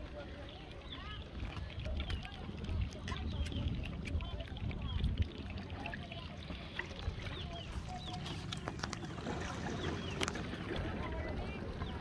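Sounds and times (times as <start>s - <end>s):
low rumble of wind and water: 0.0s - 12.0s.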